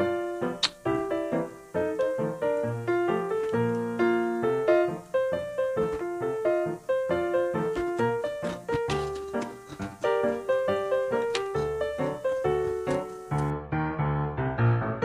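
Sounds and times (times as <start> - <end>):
lively piano music: 0.0 - 15.0.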